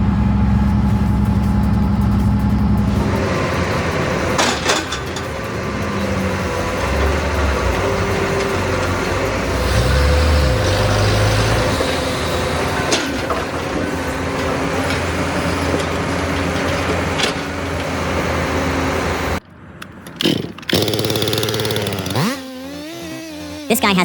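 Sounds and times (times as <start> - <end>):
heavy vehicle engine running: 0.0 - 19.4, 20.9 - 24.0.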